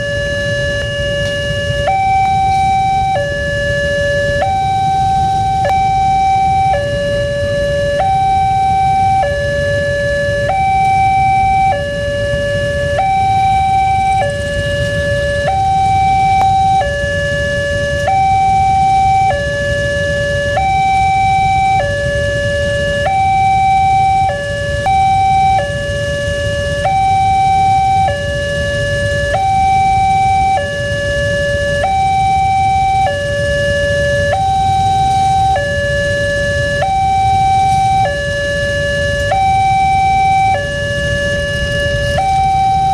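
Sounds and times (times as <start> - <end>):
two-tone crossing siren: 0.0 - 42.9.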